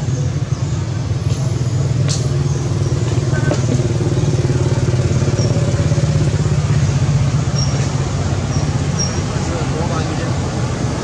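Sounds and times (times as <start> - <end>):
engine idling: 0.0 - 10.3.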